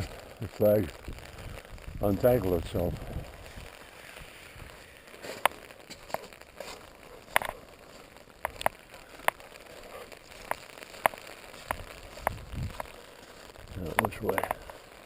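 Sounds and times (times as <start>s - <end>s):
faint patter of rain: 0.0s - 15.0s
raindrops ticking on umbrella: 0.0s - 15.0s.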